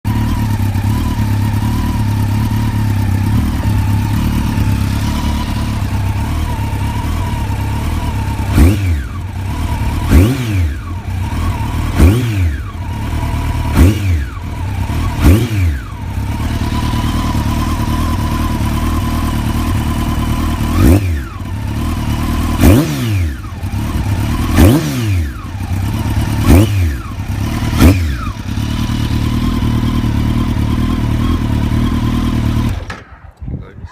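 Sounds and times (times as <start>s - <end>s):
motorcycle engine revving: 0.0s - 33.5s
motorcycle engine idling: 0.0s - 33.9s.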